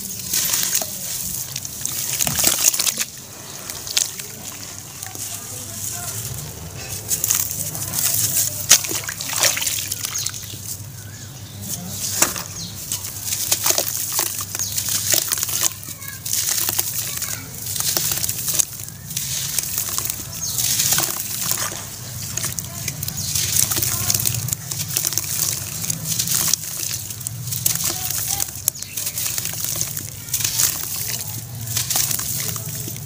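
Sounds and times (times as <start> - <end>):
water sloshing and splashing: 0.0 - 33.0
wet ash crunching and crackling: 0.0 - 33.0.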